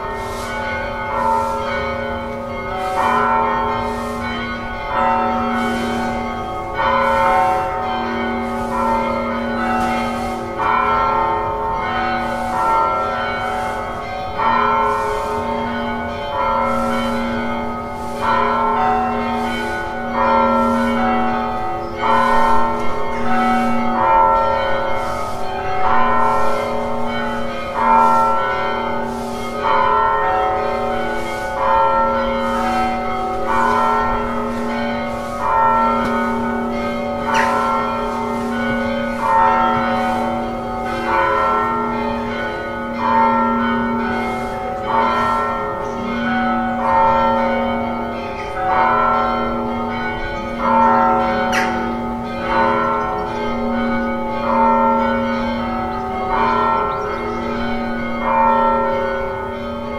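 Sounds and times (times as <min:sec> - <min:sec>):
church bells tolling: 0:00.0 - 0:59.9.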